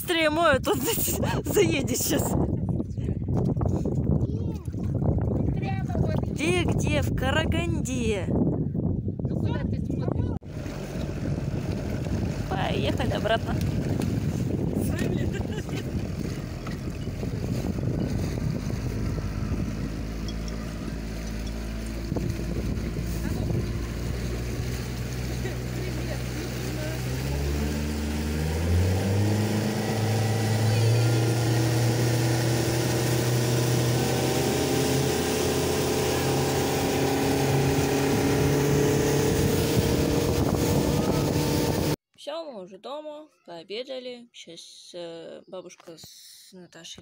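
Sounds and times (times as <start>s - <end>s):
water rushing along hull: 0.0s - 7.2s, 10.4s - 42.0s
motorboat engine running: 0.2s - 7.2s, 10.4s - 42.0s
wind on microphone: 0.4s - 25.4s, 26.6s - 42.0s.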